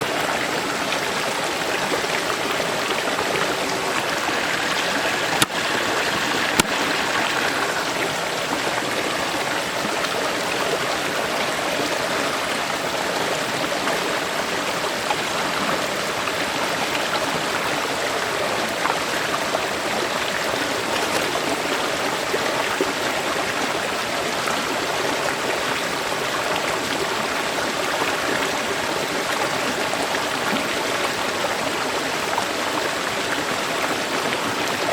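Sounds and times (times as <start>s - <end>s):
river water flowing: 0.0s - 34.9s.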